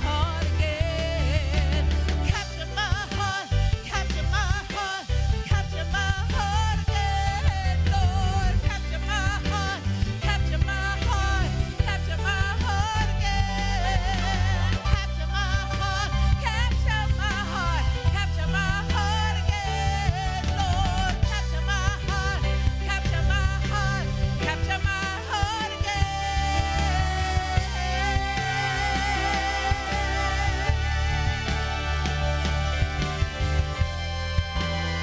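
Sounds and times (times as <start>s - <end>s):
bass: 0.0s - 35.0s
drums: 0.0s - 35.0s
keyboard: 0.0s - 35.0s
person singing with vibrato: 0.0s - 35.0s.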